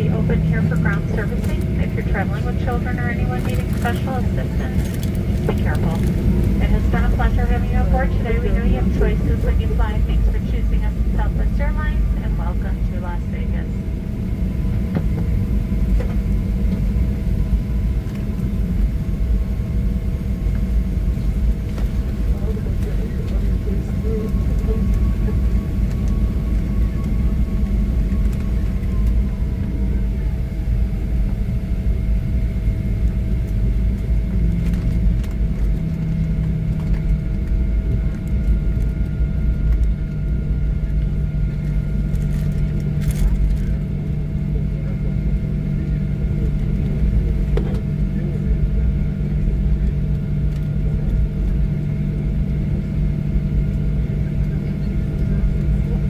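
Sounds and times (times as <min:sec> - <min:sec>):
airplane cabin low rumble: 0:00.0 - 0:56.0
steady hums: 0:00.0 - 0:56.0.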